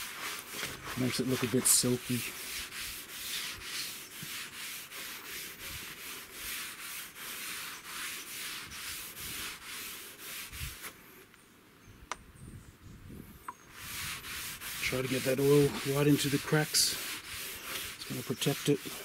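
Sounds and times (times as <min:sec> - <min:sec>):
rag scrubbing a wooden board: 0:00.0 - 0:10.9, 0:13.7 - 0:19.0.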